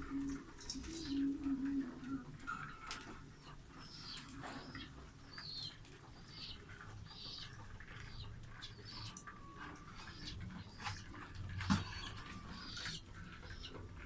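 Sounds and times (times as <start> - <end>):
pet birds chirping: 0.0 - 14.0.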